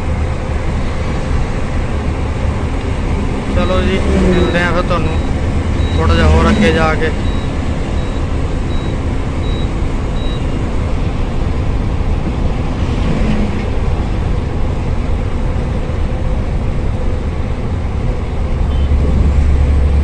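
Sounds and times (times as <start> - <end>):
road and wind noise: 0.0 - 20.0
truck engine drone: 0.0 - 20.0.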